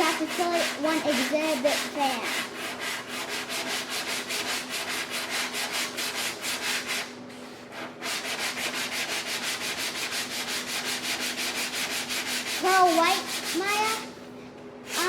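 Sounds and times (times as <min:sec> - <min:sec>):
sandpaper rubbing on filler: 0:00.0 - 0:14.0.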